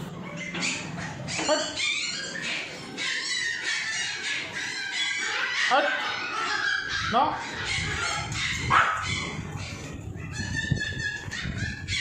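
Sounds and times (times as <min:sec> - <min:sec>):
puppies yipping and whining: 0:00.0 - 0:12.0.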